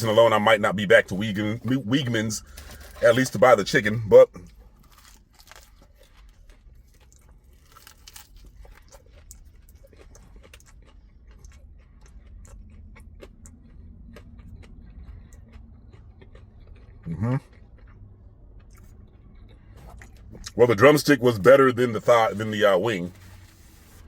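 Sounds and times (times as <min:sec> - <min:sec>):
person chewing crispy food: 0:00.0 - 0:23.4.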